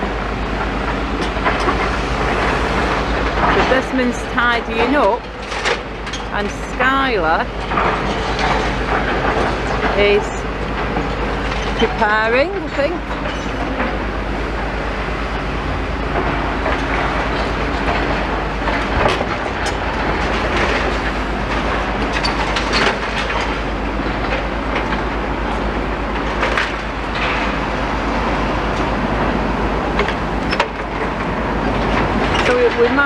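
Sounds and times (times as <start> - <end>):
clanks and knocks of rubble: 0.0 - 14.8, 15.9 - 33.0
diesel engine rumble: 0.0 - 33.0.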